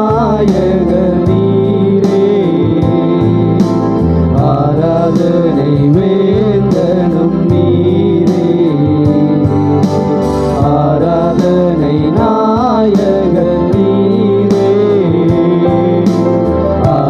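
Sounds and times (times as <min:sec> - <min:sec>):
electronic keyboard with steady beat: 0:00.0 - 0:17.0
men singing a worship song: 0:00.0 - 0:17.0.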